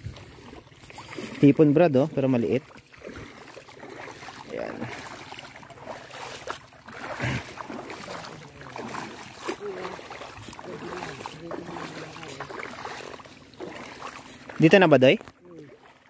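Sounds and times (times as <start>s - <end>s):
footsteps wading through water: 0.0s - 16.0s.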